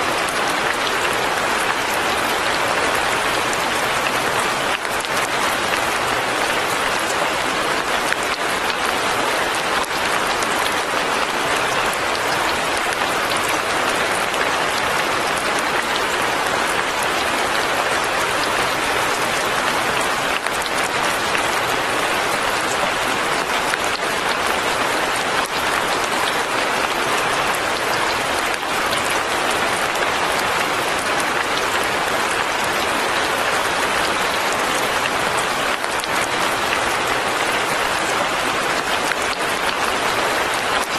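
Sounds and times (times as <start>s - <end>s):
fine rain falling: 0.0s - 40.9s.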